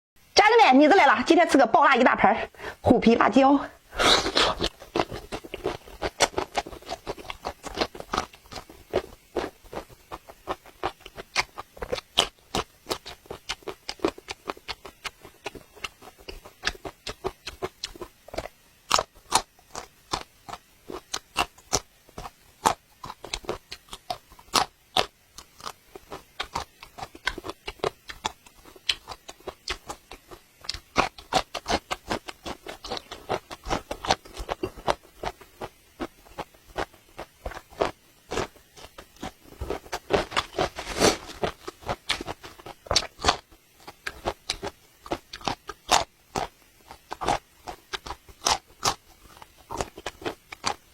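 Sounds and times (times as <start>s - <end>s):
chewing crunches: 3.9s - 50.9s.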